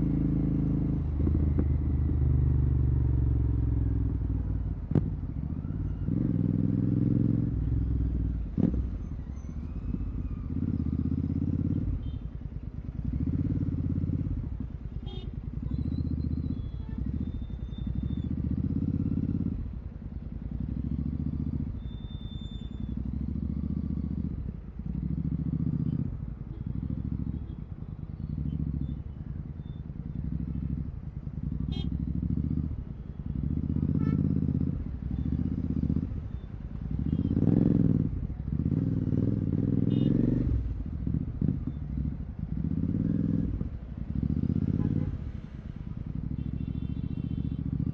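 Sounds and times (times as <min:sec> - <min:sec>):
motorcycle engine revving: 0:00.0 - 0:09.2, 0:09.9 - 0:47.9.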